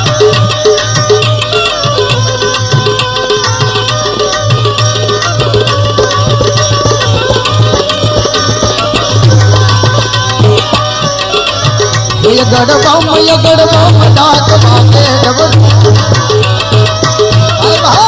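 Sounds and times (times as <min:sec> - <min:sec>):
tabla playing quick strokes: 0:02.0 - 0:18.0.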